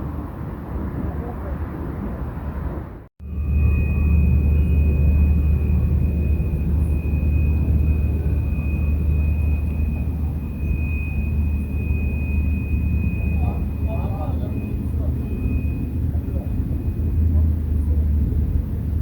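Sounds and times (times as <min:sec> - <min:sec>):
vehicle engine rumble: 0:00.0 - 0:19.0
high-pitched whine: 0:03.2 - 0:19.0.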